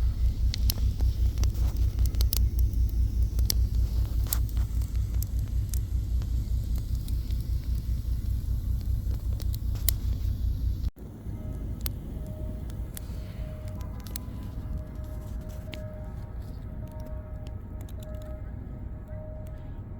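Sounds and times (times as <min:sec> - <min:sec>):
campfire crackling and popping: 0:00.0 - 0:19.6
pulsing low rumble: 0:00.0 - 0:19.9.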